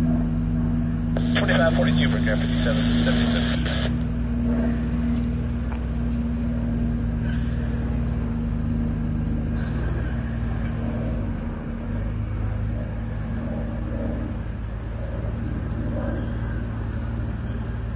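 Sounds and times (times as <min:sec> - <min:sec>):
crickets chirping: 0:00.0 - 0:17.9
propeller plane droning overhead: 0:00.0 - 0:17.9.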